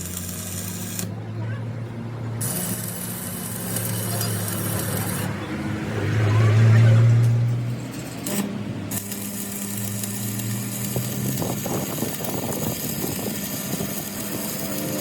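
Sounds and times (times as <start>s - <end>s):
machine hum: 1.8s - 15.0s.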